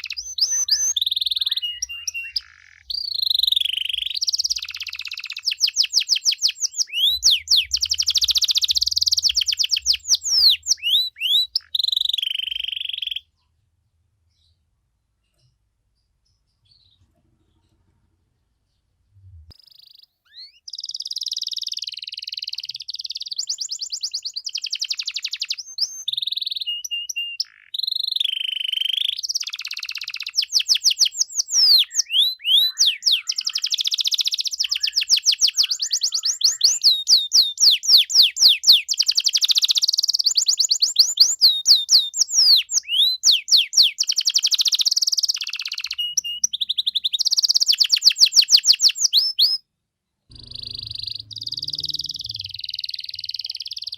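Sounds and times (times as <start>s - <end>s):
canary singing trills: 0.0s - 13.5s, 19.4s - 49.6s, 50.2s - 53.9s.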